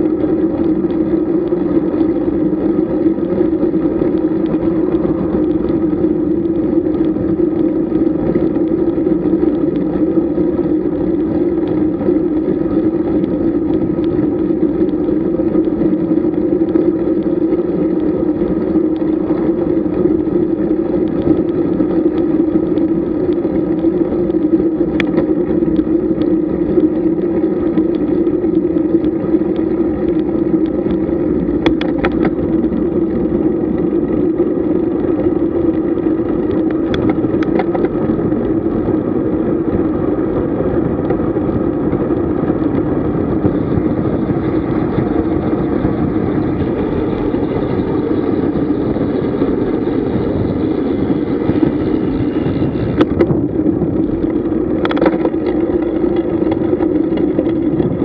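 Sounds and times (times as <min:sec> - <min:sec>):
bike tyre rolling noise: 0:00.0 - 0:58.0
wind rush: 0:00.0 - 0:58.0.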